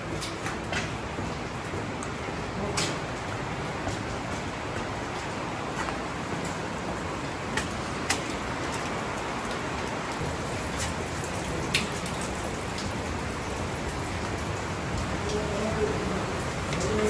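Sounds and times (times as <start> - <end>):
rushing water: 0.0 - 17.0
water dripping in tunnel: 0.0 - 17.0.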